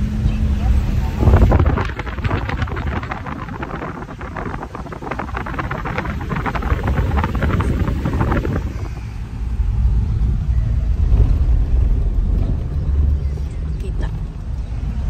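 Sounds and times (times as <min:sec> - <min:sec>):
vehicle rumble from inside cabin: 0:00.0 - 0:15.0
dense crackling noise: 0:00.6 - 0:15.0.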